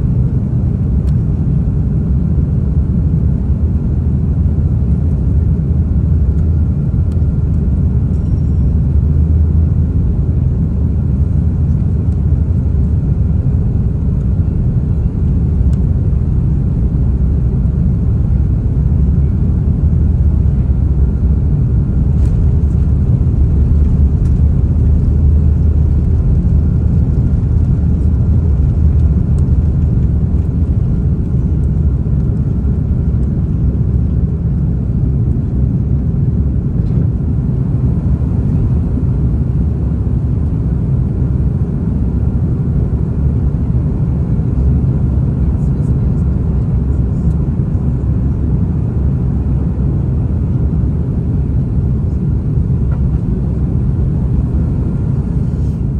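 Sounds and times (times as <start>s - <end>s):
airliner cabin rumble: 0.0s - 55.9s.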